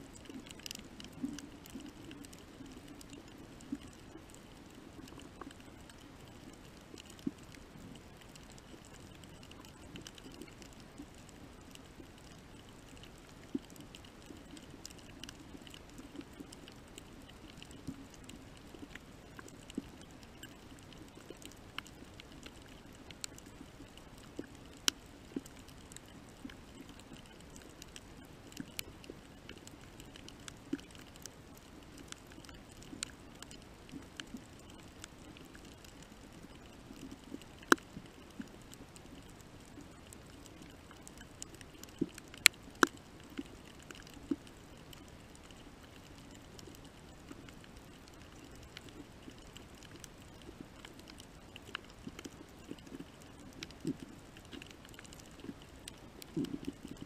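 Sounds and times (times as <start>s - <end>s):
low underwater hum: 0.0s - 57.0s
sharp clicks and crackles: 0.0s - 57.0s.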